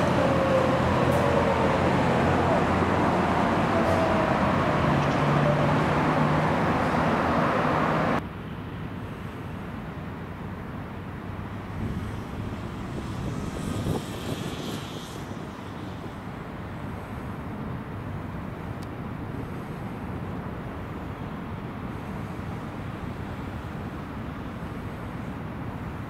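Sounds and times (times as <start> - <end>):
vehicles passing: 0.0 - 26.0.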